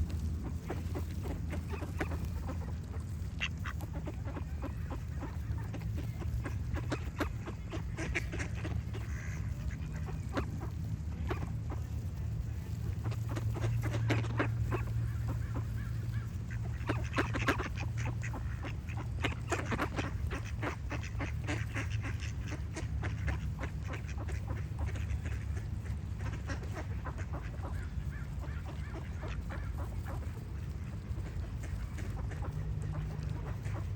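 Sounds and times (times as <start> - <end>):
ducks quacking: 0.0 - 33.9
steady low hum: 0.0 - 33.9.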